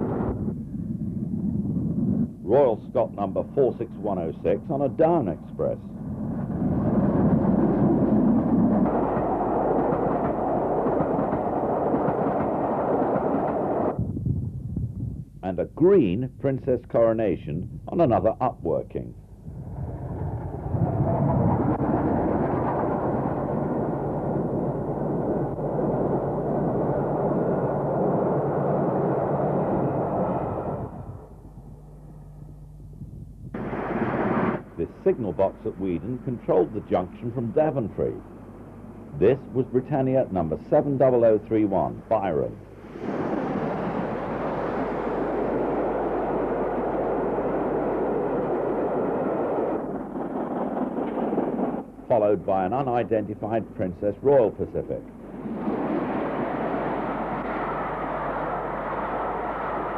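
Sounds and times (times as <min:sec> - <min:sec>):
train passing at speed: 0:02.5 - 0:14.0, 0:19.5 - 0:32.3, 0:33.6 - 0:53.6, 0:54.8 - 0:59.9.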